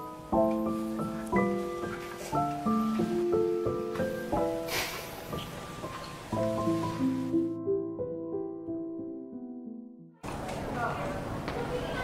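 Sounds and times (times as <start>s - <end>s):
slow keyboard melody: 0.0s - 10.2s.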